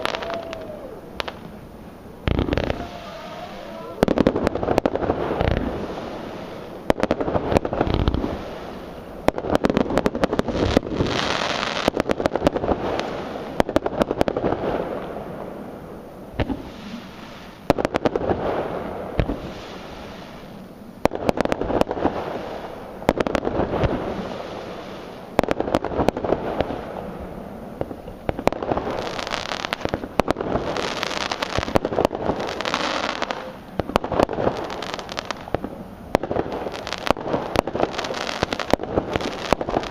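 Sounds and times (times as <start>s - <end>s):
crackling firework effects: 0.0s - 39.9s.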